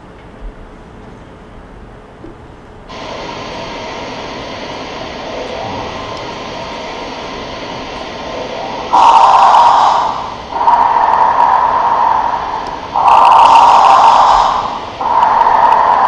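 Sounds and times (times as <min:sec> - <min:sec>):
rushing rumbling noise: 0:02.9 - 0:16.0.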